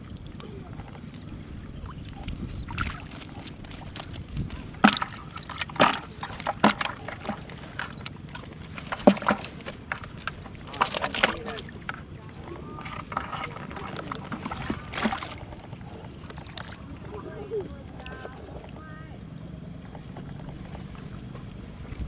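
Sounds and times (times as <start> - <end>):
low steady rumble: 0.0 - 22.0
water splashing and sloshing: 0.0 - 22.0.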